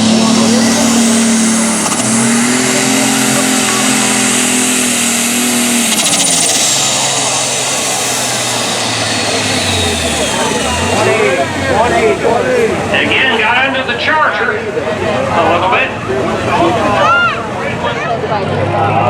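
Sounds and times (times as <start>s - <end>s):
high turbo whine: 0.0s - 19.0s
tractor engine at full throttle: 0.0s - 19.0s.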